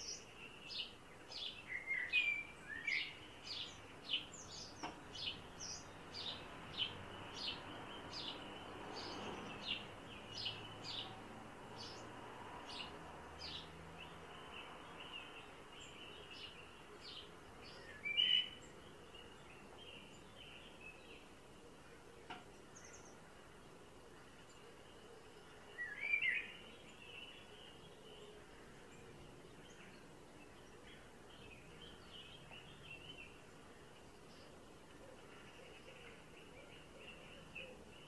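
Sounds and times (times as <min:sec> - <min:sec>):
songbird calling: 0:00.0 - 0:11.2, 0:12.7 - 0:23.4, 0:24.0 - 0:38.0.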